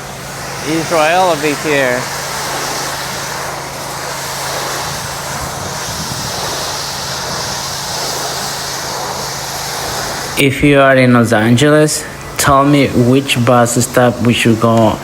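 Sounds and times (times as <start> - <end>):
pressure washer drone and hiss: 0.0 - 15.0.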